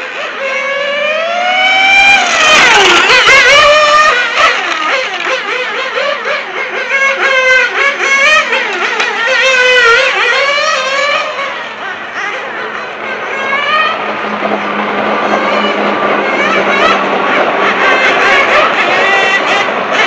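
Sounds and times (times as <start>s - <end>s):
radio-controlled car motor running: 0.0s - 14.0s, 15.6s - 20.0s.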